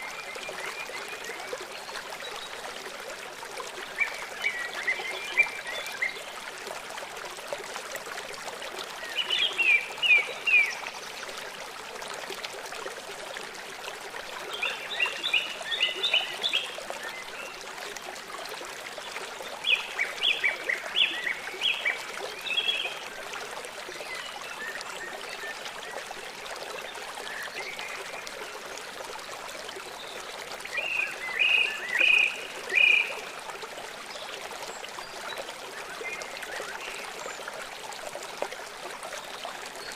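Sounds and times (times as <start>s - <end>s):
running stream: 0.0s - 39.9s.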